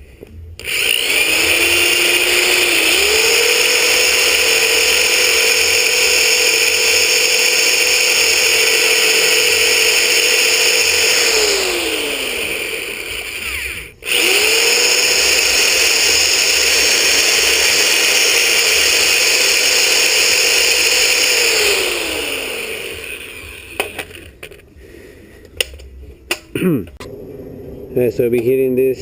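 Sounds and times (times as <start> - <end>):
electric drill whining: 0.6 - 24.6.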